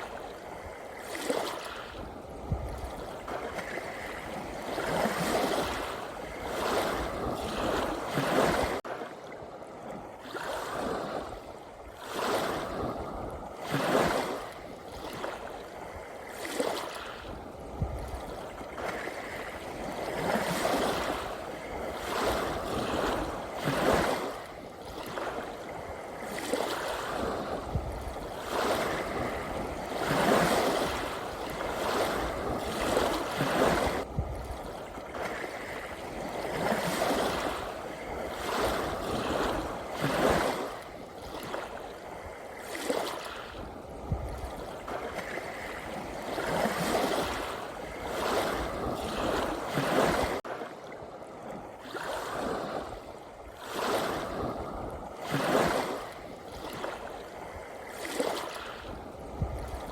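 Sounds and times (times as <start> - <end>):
ocean waves splashing: 0.0 - 59.9.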